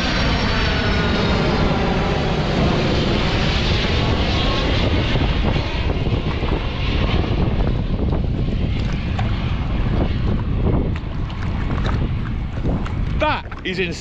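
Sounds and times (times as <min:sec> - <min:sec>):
jet transport engines rumbling overhead: 0:00.0 - 0:14.0.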